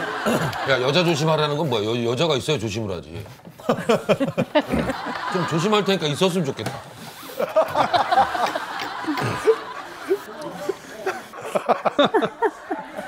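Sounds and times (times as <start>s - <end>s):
men laughing: 0.0s - 1.4s, 3.5s - 13.0s.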